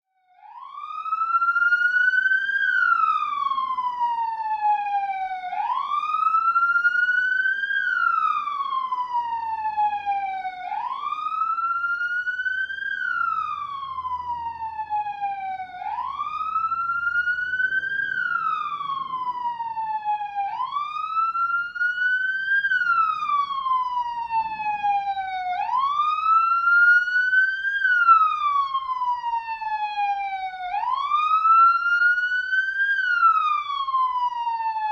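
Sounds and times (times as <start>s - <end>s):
police siren wailing: 0.2s - 34.9s.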